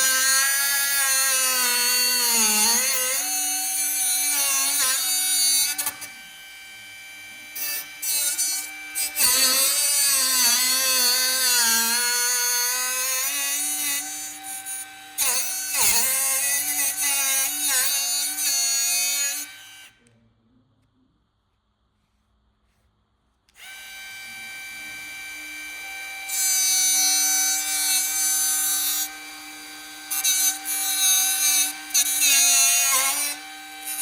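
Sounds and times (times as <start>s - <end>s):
electric power tool on steel: 0.0s - 20.0s, 23.6s - 34.0s.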